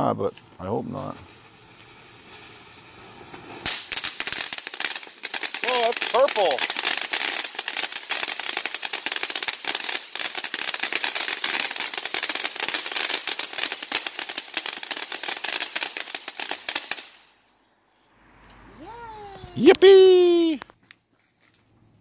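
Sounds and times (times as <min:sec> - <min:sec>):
firework crackling pops: 0:00.1 - 0:17.4, 0:19.3 - 0:20.7.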